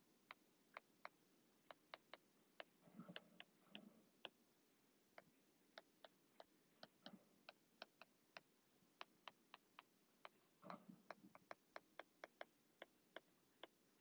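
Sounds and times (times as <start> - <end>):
stylus tapping on tablet screen: 0.3 - 4.4, 5.1 - 13.8.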